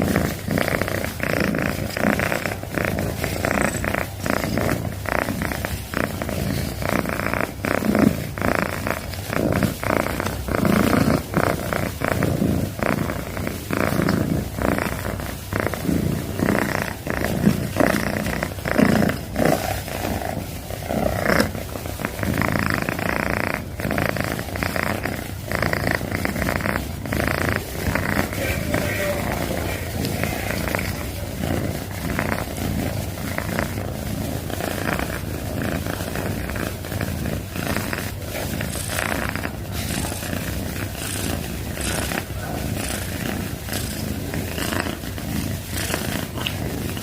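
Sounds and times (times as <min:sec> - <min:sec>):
cat purring loudly: 0:00.0 - 0:47.0.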